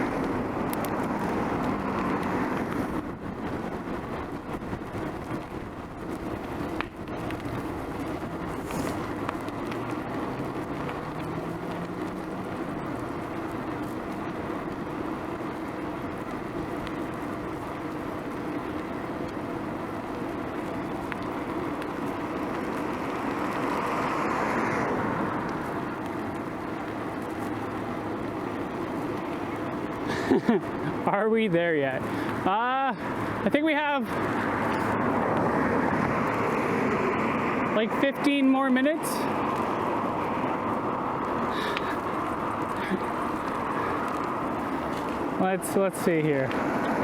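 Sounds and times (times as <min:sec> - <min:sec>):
vehicle passing close: 0:00.0 - 0:17.7, 0:20.0 - 0:27.8, 0:31.6 - 0:47.0
bicycle road noise: 0:00.0 - 0:47.0
motor traffic: 0:00.0 - 0:47.0.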